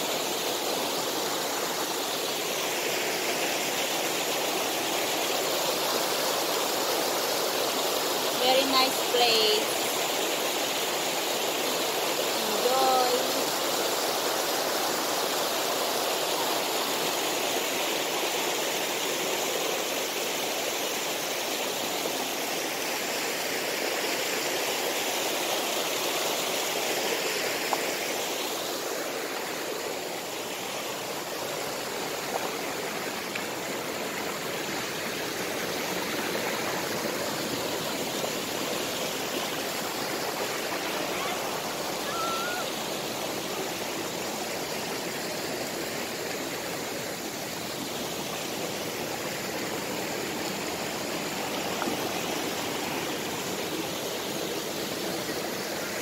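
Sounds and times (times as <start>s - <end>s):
stream rushing over boulders: 0.0s - 56.0s.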